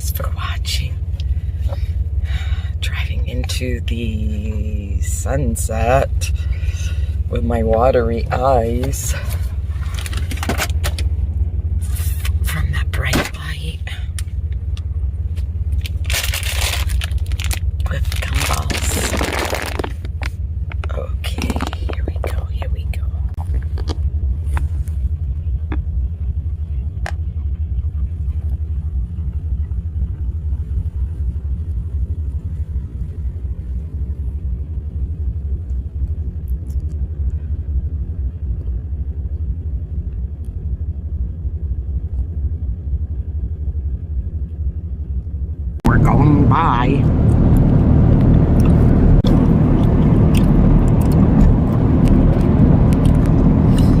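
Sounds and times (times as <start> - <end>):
truck rumble from inside cab: 0.0 - 54.0.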